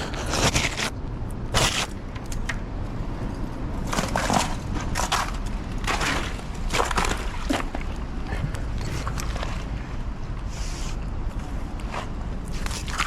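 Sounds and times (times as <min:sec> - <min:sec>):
crunching scraping noises: 0:00.0 - 0:13.0
steady low rumble: 0:00.0 - 0:13.0.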